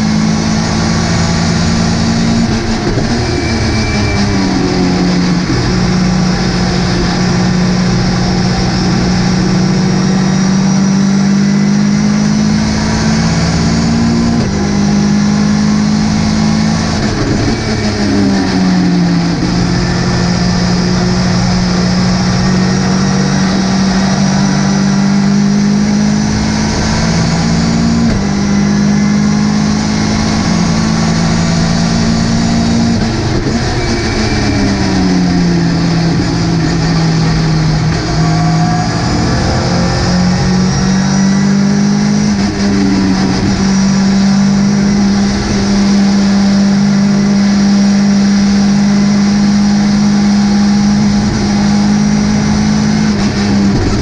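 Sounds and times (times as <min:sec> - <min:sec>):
race car engine accelerating: 0:00.0 - 0:54.0
road and wind noise: 0:00.0 - 0:54.0.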